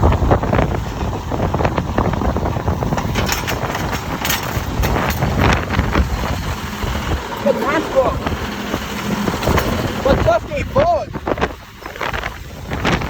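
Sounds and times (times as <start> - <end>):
garbage truck diesel engine running: 0.0 - 13.0
gusty wind buffeting microphone: 0.0 - 13.0.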